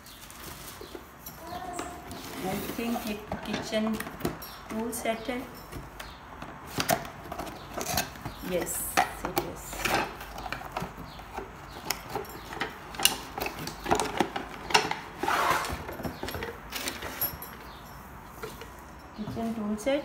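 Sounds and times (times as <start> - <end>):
plastic and cardboard rustling: 0.0 - 20.0.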